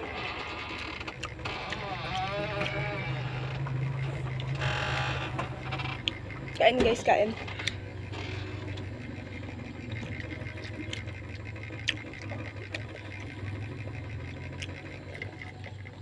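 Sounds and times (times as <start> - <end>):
low hum: 0.0 - 16.0
chewing close up: 0.7 - 16.0.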